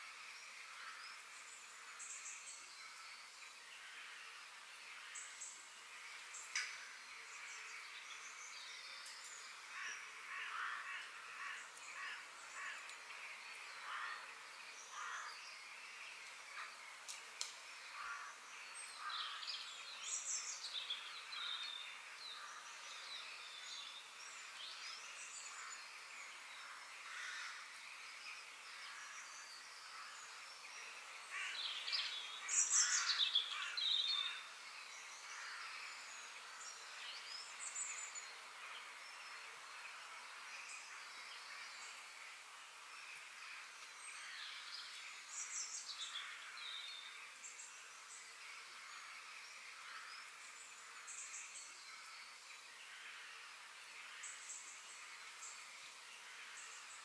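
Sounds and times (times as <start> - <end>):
wild birds chirping and singing: 0.0 - 57.0.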